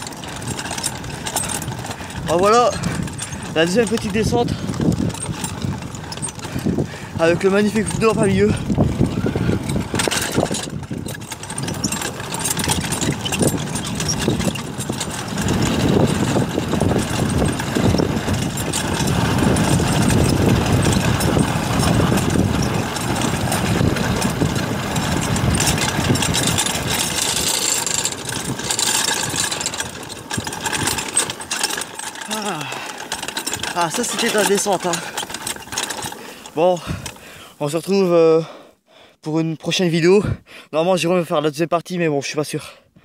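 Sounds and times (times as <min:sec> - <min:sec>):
go-kart rattling over gravel: 0:00.0 - 0:38.2.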